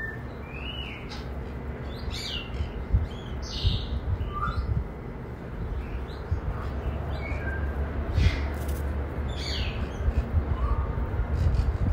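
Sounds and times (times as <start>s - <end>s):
bird chirps and calls: 0.0s - 4.8s, 5.5s - 11.9s
steady low rumble: 0.2s - 11.9s.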